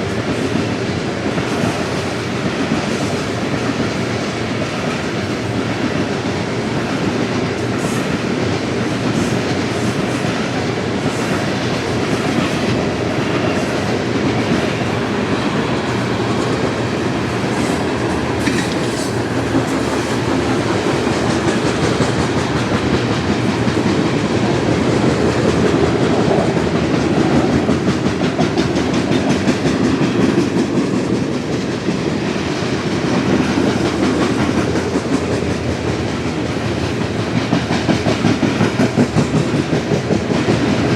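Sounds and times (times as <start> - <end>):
steel wheels rumbling on rails: 0.0 - 40.9
wheels clacking over rail joints: 0.0 - 40.9.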